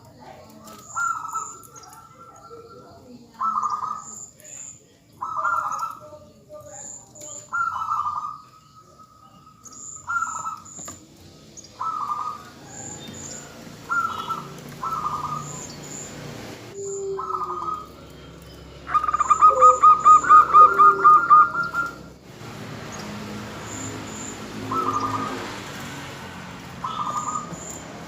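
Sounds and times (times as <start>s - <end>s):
doves cooing: 0.0s - 4.3s, 5.2s - 6.5s, 7.2s - 28.0s.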